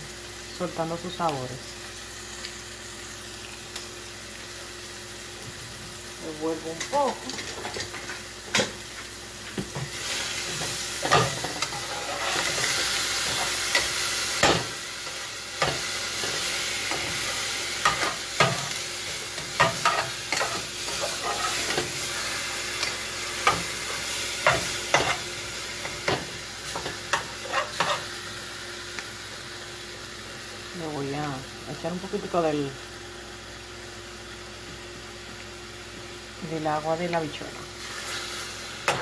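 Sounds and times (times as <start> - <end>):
vegetables sizzling in oil: 0.0 - 39.0.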